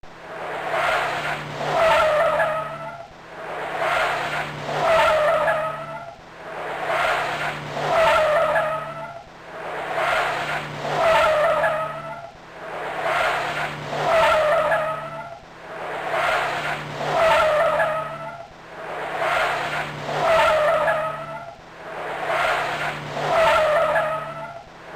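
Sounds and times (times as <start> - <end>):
car noise with squealing tone: 0.0 - 24.9.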